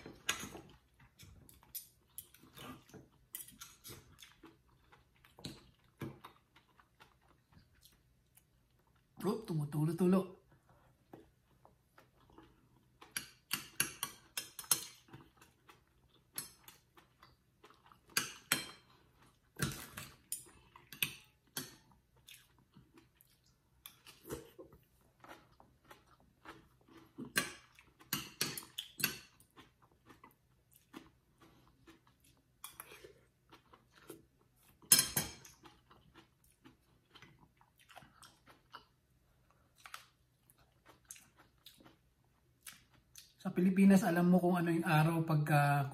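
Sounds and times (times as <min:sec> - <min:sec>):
person chewing: 0:00.0 - 0:09.2, 0:10.5 - 0:43.4.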